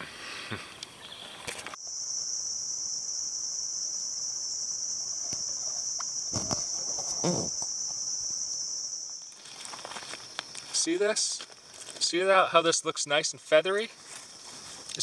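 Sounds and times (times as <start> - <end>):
high-pitched insect chorus: 1.7 - 15.0.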